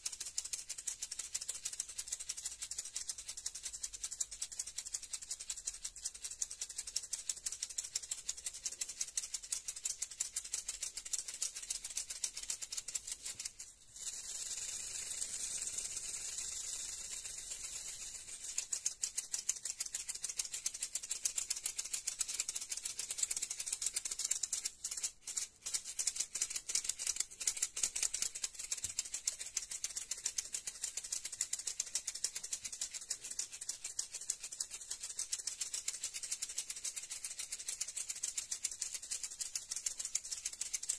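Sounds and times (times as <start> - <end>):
maracas rattling: 0.0 - 40.9.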